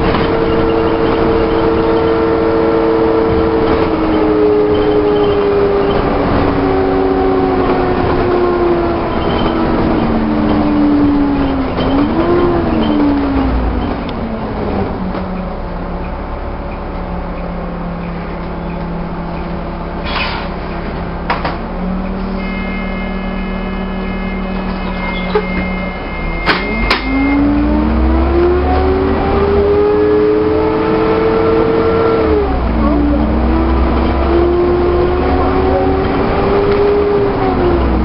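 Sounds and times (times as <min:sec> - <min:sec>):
bus engine running: 0:00.0 - 0:38.0.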